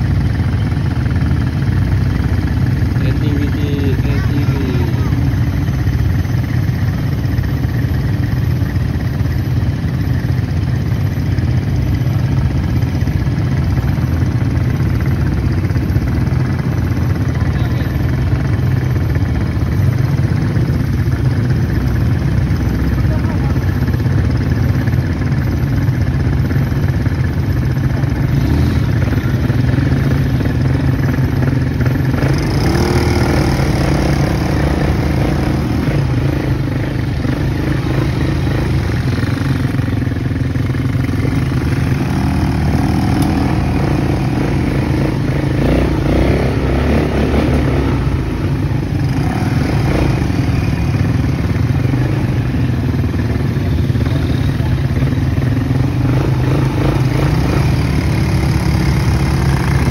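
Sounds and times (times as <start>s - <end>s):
quad bike engines running: 0.0s - 59.9s.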